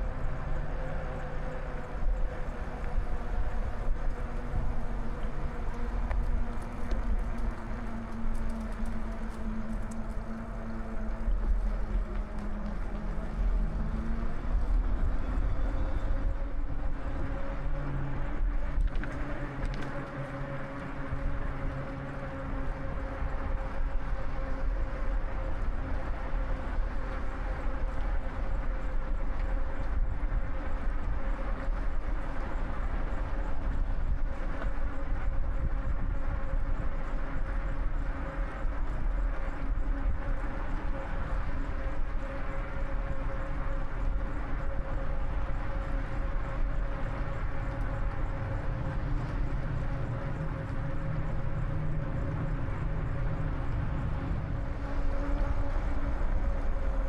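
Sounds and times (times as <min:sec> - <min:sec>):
faint steady whine: 0:00.0 - 0:57.0
held drones: 0:00.0 - 0:57.0
wind buffeting microphone: 0:00.0 - 0:57.0.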